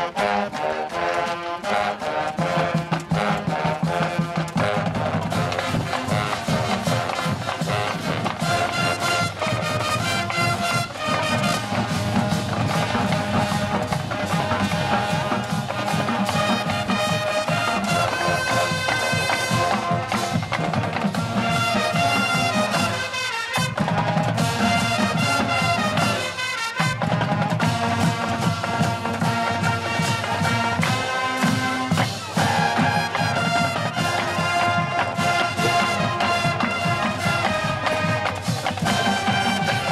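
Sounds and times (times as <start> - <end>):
marching band playing: 0.0 - 39.9.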